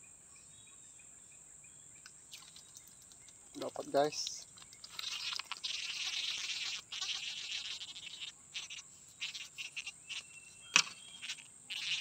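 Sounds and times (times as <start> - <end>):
chorus of forest animals: 0.0 - 12.0.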